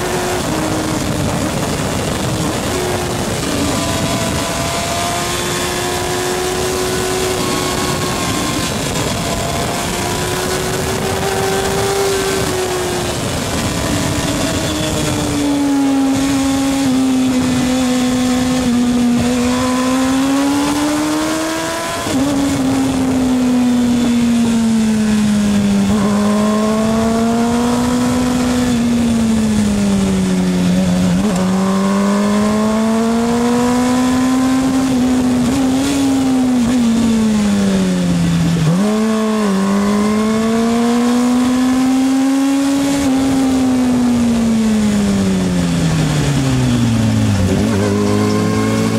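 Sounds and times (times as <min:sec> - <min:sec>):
racing motorcycle engine revving: 0:00.0 - 0:48.9.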